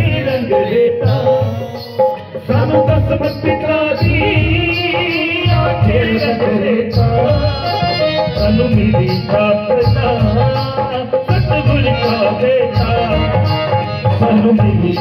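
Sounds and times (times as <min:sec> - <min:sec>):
devotional singing over loudspeakers: 0:00.0 - 0:15.0.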